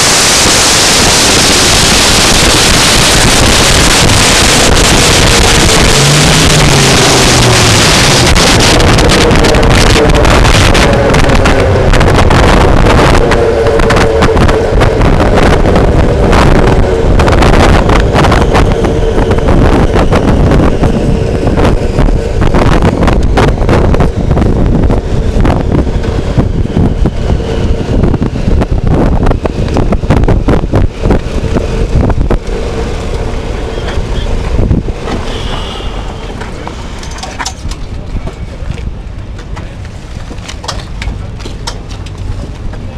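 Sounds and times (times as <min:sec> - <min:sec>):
heavy wind buffeting microphone: 0:00.0 - 0:42.9
rolling rumble: 0:00.0 - 0:42.9.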